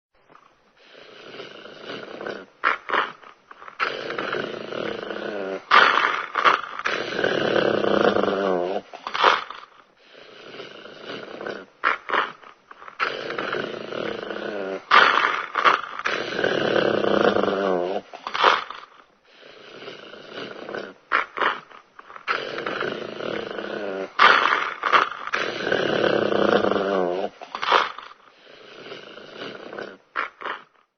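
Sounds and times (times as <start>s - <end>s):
dog growling and snarling: 0.3s - 30.9s.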